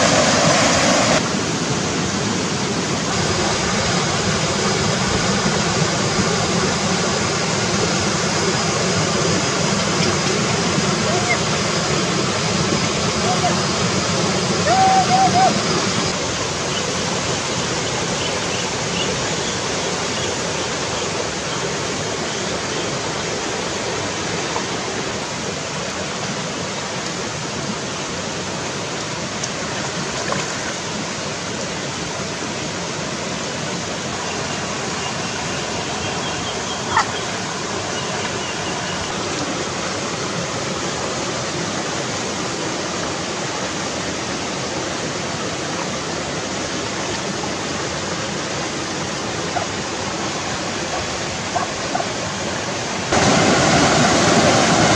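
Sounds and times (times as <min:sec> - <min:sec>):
stream rushing over stones: 0:00.0 - 0:54.9.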